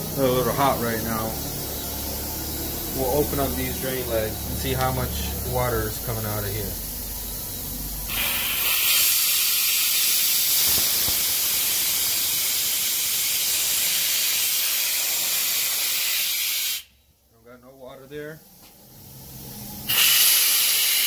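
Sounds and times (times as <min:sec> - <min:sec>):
compressed air hissing from valve: 0:00.0 - 0:17.0, 0:18.4 - 0:21.0.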